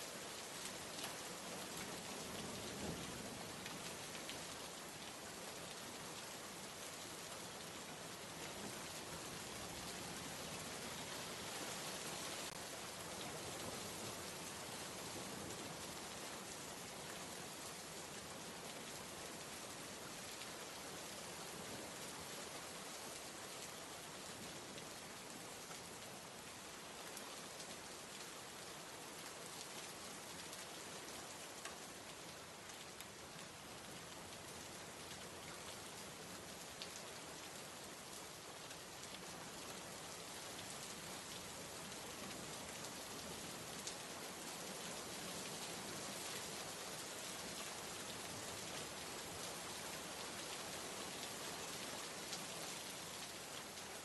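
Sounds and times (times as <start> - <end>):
faint rain falling: 0.0 - 54.0.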